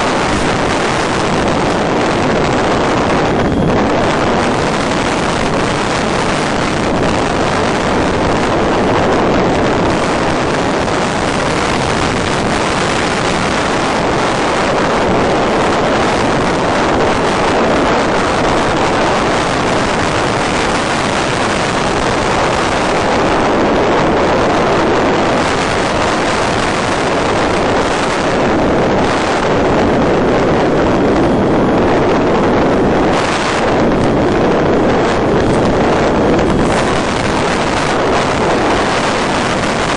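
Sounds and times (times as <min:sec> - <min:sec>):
rushing wind noise: 0:00.0 - 0:39.9.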